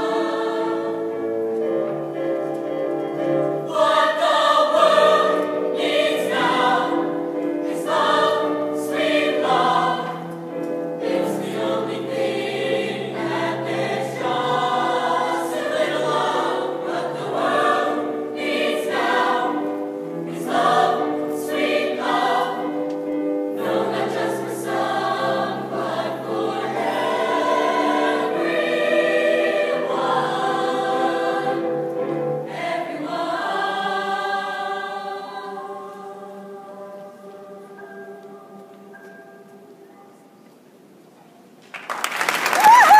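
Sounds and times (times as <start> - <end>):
mixed choir singing: 0.0 - 1.6, 3.5 - 22.9, 23.5 - 39.2.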